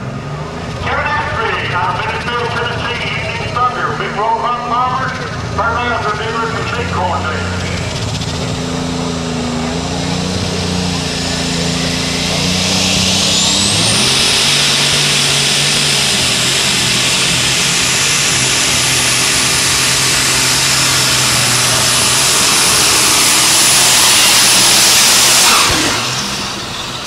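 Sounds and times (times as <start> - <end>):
tractor engine at full throttle: 0.0 - 27.0
turbocharger whine: 0.0 - 27.0.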